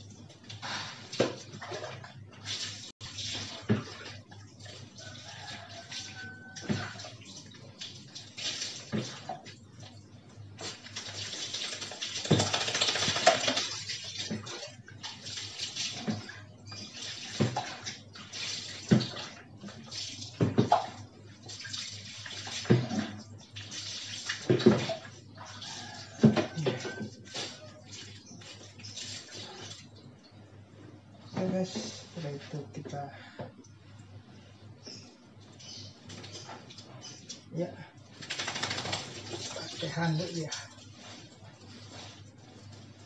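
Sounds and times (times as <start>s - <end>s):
water pouring and splashing on tiles: 0.0s - 29.9s, 38.1s - 43.0s.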